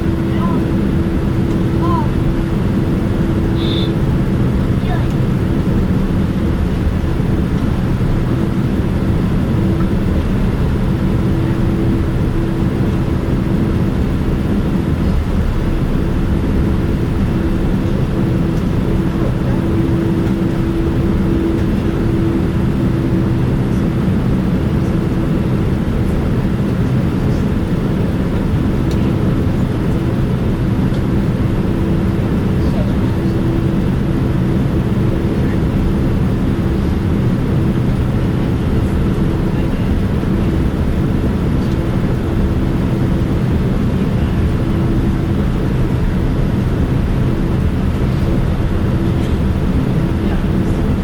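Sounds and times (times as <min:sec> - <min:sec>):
airplane cabin hum: 0:00.0 - 0:51.0.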